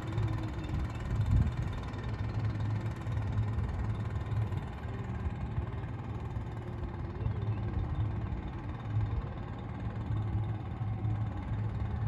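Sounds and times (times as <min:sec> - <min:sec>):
boat engine drone: 0:00.0 - 0:12.0
faint steady whine: 0:00.0 - 0:12.0.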